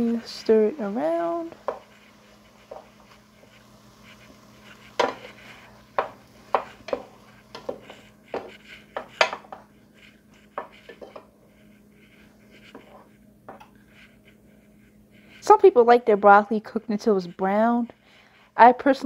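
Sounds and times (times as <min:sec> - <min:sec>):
spatula scraping a pan: 0:00.0 - 0:18.2.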